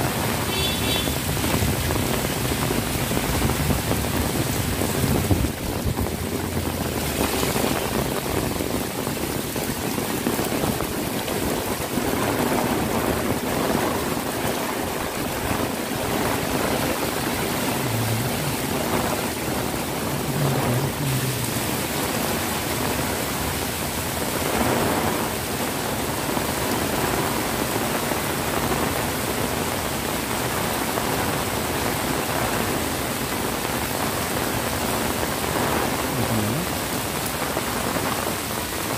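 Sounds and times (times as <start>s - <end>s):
heavy rain on pavement: 0.0s - 38.9s.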